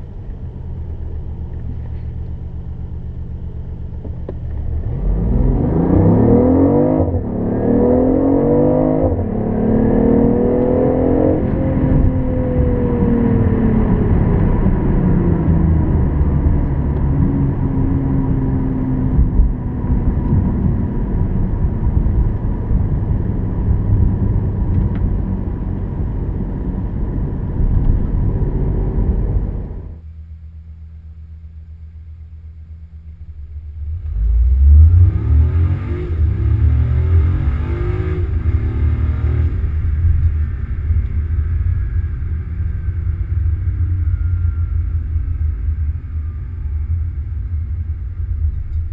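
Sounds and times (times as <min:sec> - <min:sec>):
car engine: 0:00.0 - 0:48.9
road noise: 0:00.0 - 0:48.9.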